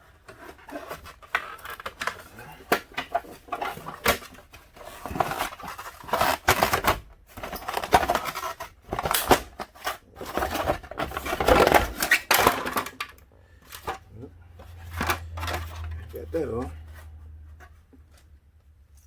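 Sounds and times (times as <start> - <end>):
hand tools clicking and scraping: 0.0 - 18.3.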